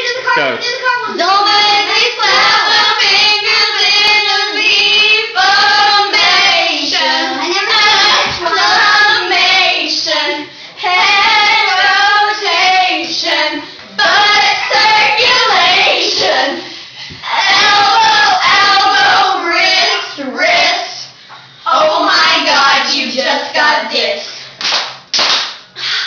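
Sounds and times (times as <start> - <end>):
girls singing loudly: 0.8 - 24.1.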